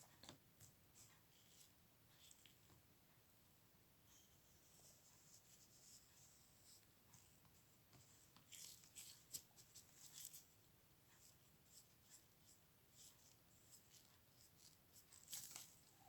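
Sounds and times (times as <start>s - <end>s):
faint rubbing and scratching strokes: 0.0s - 3.2s, 4.0s - 16.0s.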